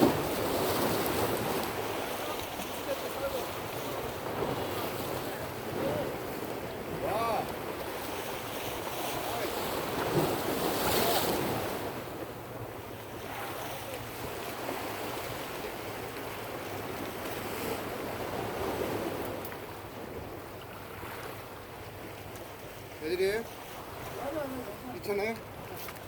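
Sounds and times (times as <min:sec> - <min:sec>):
ocean waves washing in: 0:00.0 - 0:22.1, 0:22.8 - 0:25.8
wind buffeting microphone: 0:00.0 - 0:22.9.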